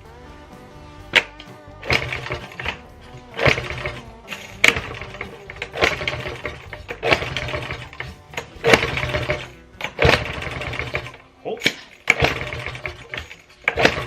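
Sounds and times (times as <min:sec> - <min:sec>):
two-stroke engine being cranked: 0:01.1 - 0:14.0.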